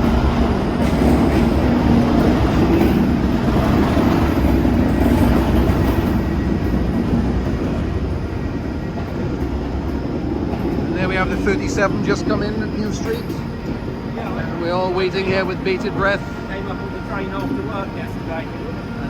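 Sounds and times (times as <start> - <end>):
train rumble with low drone: 0.0 - 19.0.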